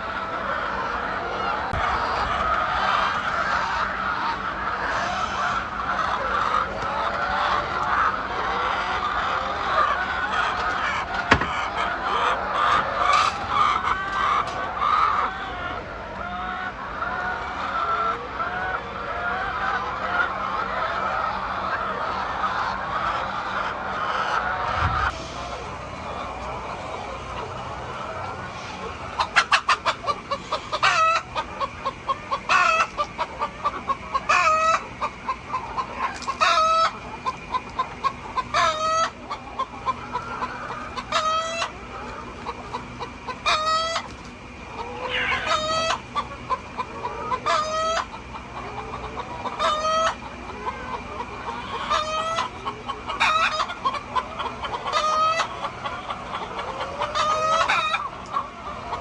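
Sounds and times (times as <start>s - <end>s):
chickens clucking: 0.0s - 59.0s
loud chicken call: 0.0s - 59.0s.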